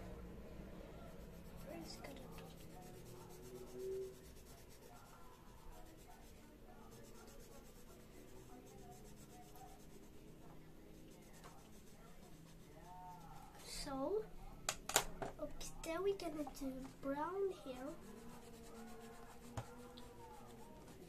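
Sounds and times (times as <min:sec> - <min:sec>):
colored pencil scratching on paper: 0:01.0 - 0:13.9, 0:16.1 - 0:21.0.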